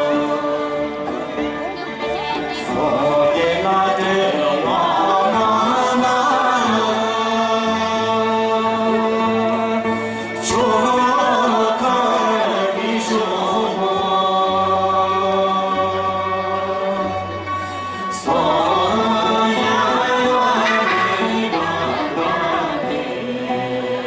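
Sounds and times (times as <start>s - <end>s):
group singing folk song: 0.0s - 24.0s.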